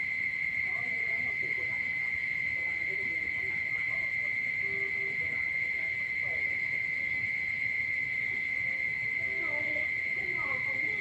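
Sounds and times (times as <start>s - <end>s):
chorus of frogs and insects: 0.0s - 11.0s.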